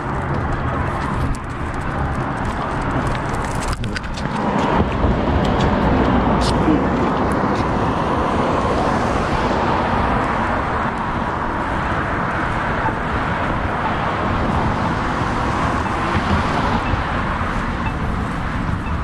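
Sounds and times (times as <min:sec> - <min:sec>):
road traffic roar: 0:00.0 - 0:19.0.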